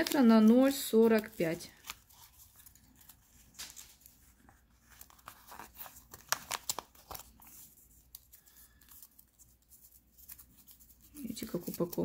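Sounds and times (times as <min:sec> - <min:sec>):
paper rustling: 0:00.0 - 0:12.0
sharp paper crackles: 0:00.0 - 0:12.0.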